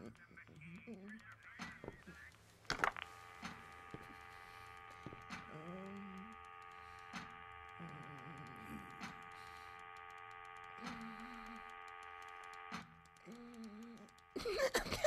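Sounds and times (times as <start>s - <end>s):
machine hum of held tones: 0.0s - 15.0s
sharp ticks: 0.0s - 15.0s.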